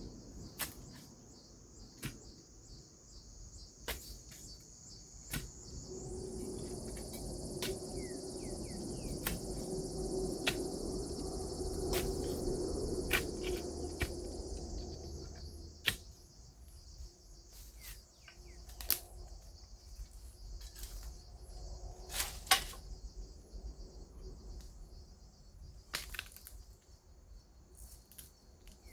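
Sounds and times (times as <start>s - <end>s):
insects buzzing drone: 0.0s - 28.9s.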